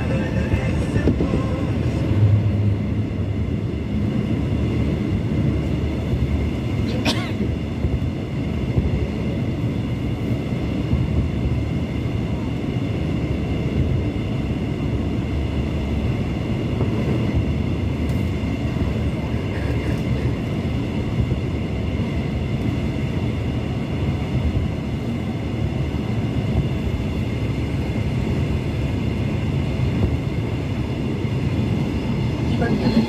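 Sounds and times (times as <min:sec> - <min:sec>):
subway wheels rumbling on rail: 0:00.0 - 0:33.0.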